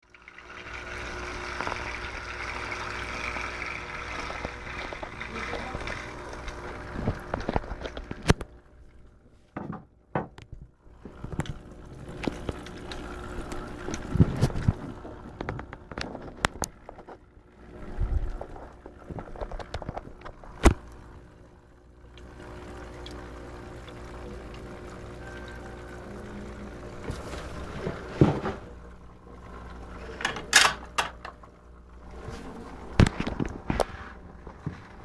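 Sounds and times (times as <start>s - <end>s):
water pouring and trickling: 0.0s - 9.1s, 10.9s - 35.0s
filter motor hum: 0.0s - 35.0s.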